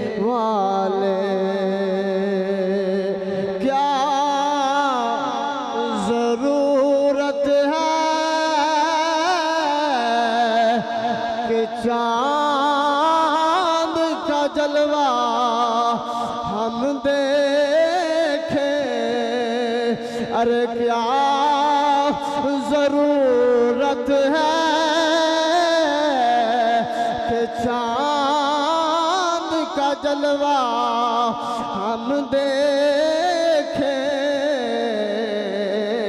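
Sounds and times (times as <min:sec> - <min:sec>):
man singing devotional song: 0:00.0 - 0:36.0.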